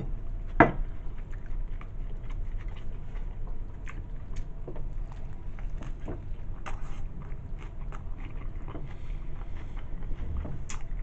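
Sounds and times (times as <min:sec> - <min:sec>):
steady low rumble: 0:00.0 - 0:11.0
person chewing with wet smacks: 0:00.1 - 0:11.0.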